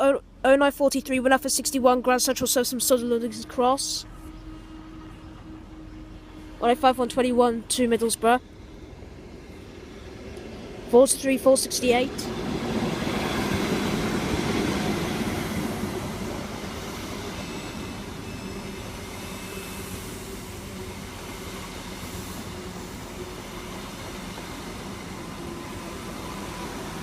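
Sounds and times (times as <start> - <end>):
train diesel engine running: 0.0 - 27.0.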